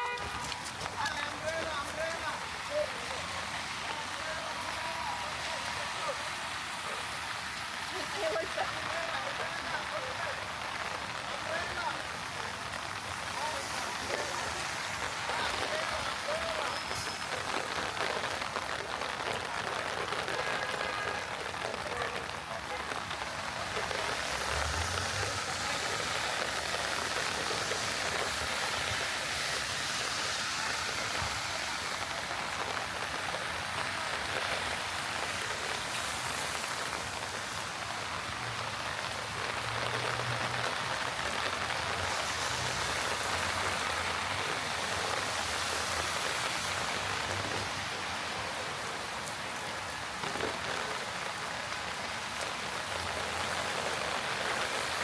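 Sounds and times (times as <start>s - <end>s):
heavy rain on streets: 0.0s - 55.0s.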